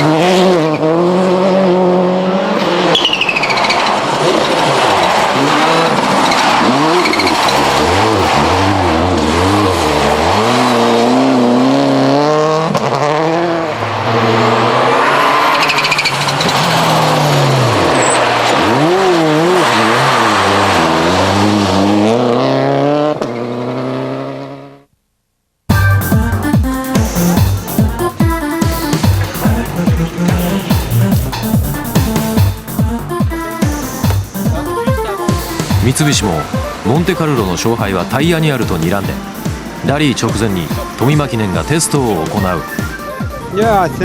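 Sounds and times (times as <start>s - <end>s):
rally car engine revving: 0.0s - 24.8s, 25.7s - 44.0s.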